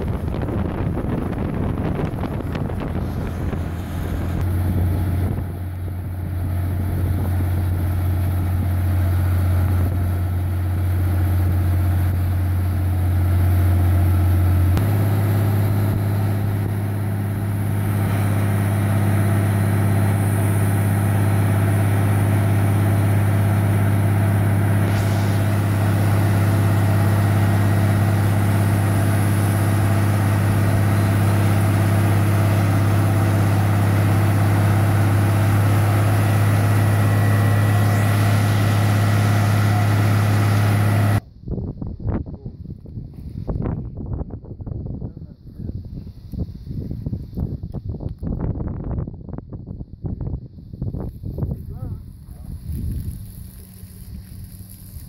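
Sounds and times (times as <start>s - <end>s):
drilling rig engine running: 0.0s - 41.2s, 51.0s - 55.0s.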